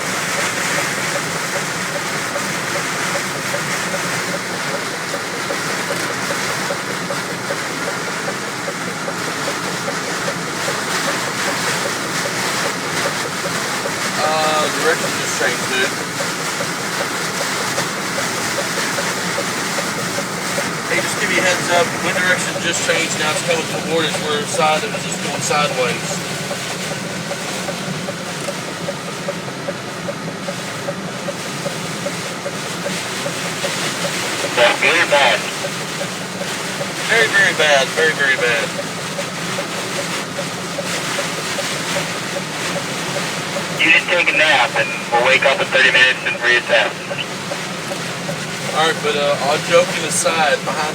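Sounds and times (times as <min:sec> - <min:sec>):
heavy rain and wind on truck: 0:00.0 - 0:50.9
light even ticking: 0:00.0 - 0:50.9.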